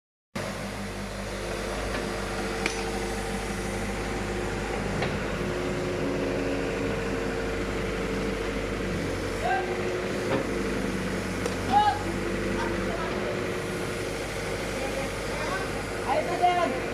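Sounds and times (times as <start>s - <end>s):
construction machinery engine hum: 0.4s - 16.9s.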